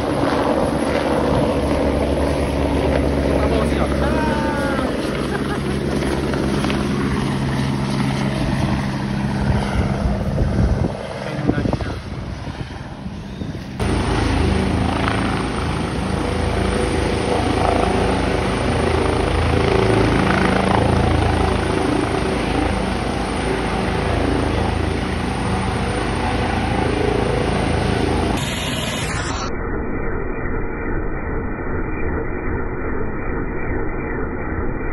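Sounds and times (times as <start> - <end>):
helicopter hovering: 0.0 - 34.9.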